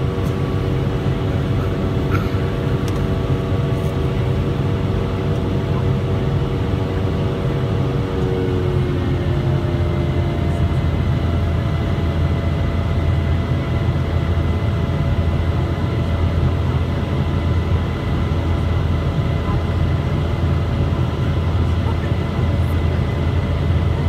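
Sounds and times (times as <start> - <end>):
faint steady whines: 0.0 - 24.0
jet engines droning in cabin: 0.0 - 24.0.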